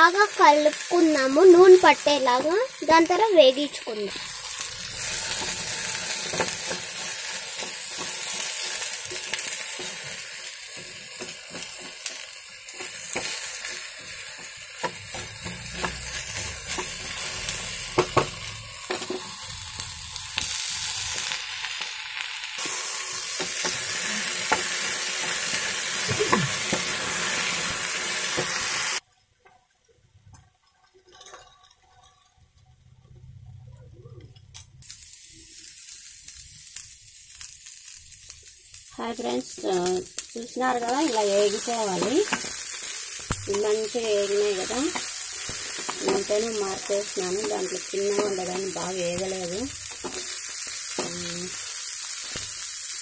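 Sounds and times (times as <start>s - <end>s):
vegetables sizzling in oil: 0.0s - 29.0s, 34.8s - 53.0s.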